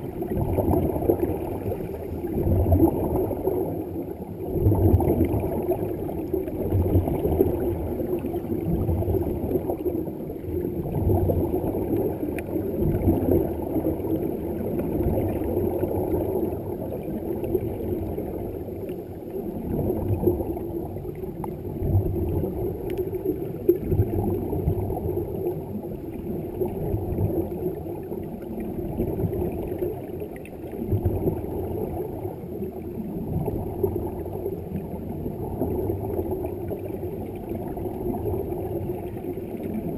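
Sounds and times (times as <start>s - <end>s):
exhaled air bubbles gurgling: 0.0s - 39.9s
muffled underwater rumble: 0.0s - 39.9s.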